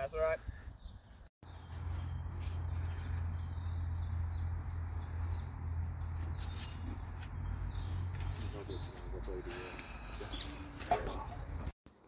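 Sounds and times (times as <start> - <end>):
songbird chirping: 0.0 - 11.8.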